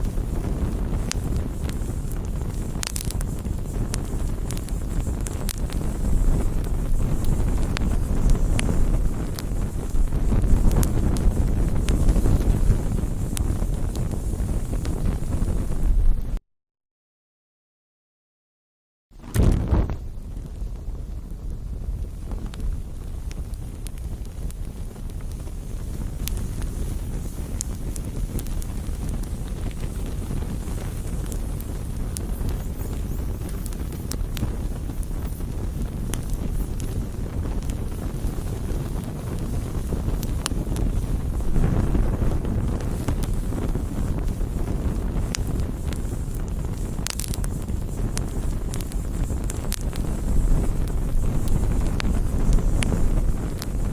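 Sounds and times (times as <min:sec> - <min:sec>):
bonfire rumble: 0:00.0 - 0:16.4, 0:19.2 - 0:53.9
campfire flames roaring: 0:00.0 - 0:16.4, 0:19.2 - 0:53.9
fire crackles and pops: 0:00.0 - 0:16.4, 0:19.2 - 0:53.9.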